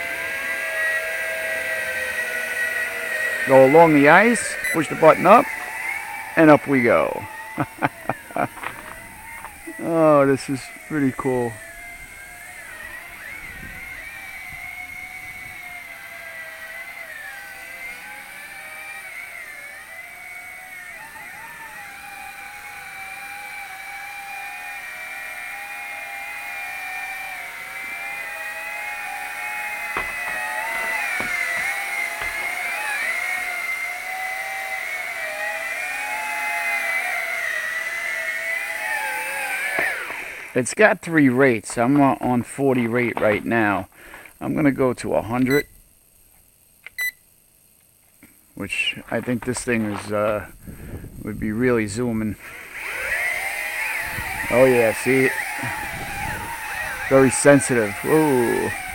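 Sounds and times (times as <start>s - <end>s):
model plane motors whining: 0.0s - 58.9s.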